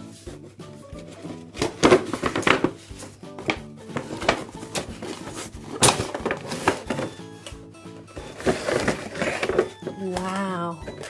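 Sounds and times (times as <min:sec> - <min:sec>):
light background music: 0:00.0 - 0:11.0.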